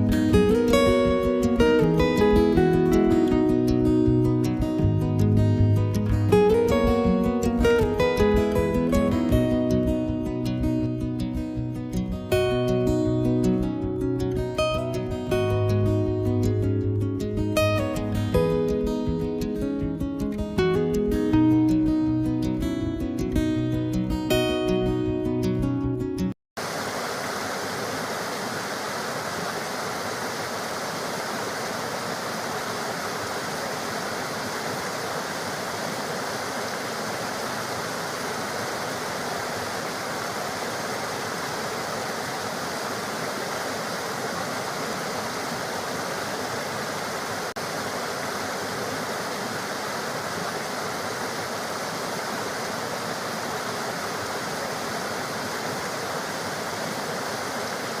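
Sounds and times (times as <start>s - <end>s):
rushing water: 0.0s - 19.7s, 26.6s - 58.0s.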